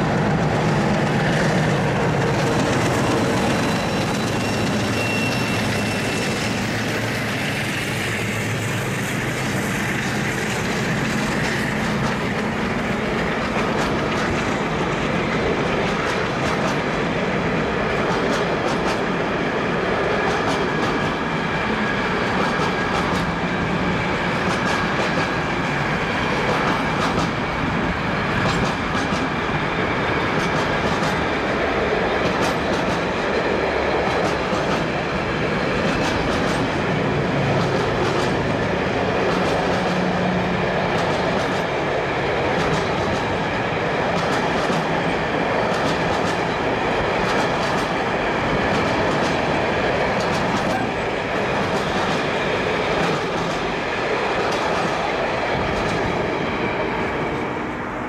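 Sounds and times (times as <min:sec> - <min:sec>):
wheels clattering on rails: 0:00.0 - 0:19.4, 0:20.0 - 0:57.6
train wagons rumbling past: 0:00.0 - 0:58.0.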